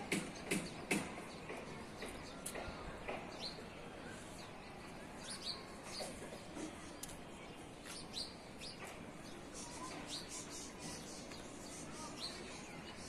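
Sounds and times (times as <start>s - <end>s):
birds chirping: 0.0s - 13.0s
steady background noise: 0.0s - 13.0s.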